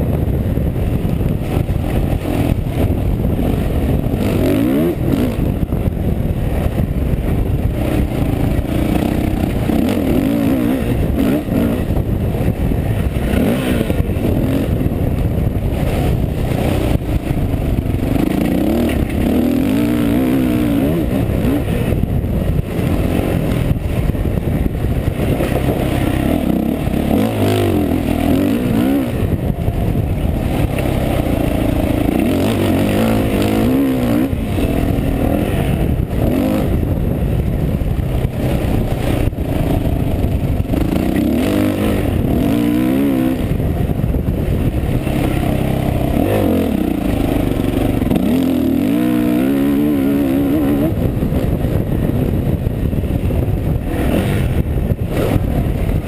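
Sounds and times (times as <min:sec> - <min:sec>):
motocross bike engine running hard: 0:00.0 - 0:56.0.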